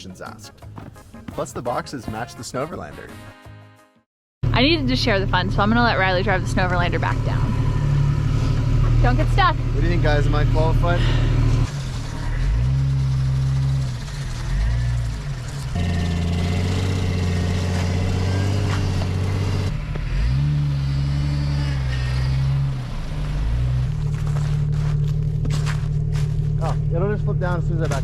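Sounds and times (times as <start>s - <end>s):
vehicle engine revving: 4.4s - 28.0s.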